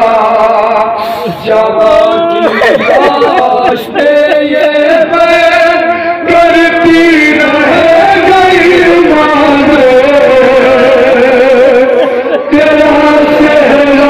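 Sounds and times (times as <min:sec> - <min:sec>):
men chanting through loudspeakers: 0:00.0 - 0:14.0.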